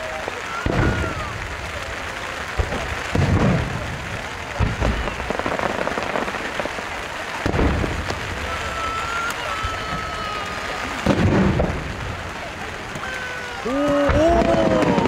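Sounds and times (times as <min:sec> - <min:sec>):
heavy rain falling: 0:00.0 - 0:15.0
low fireworks booms: 0:00.0 - 0:15.0.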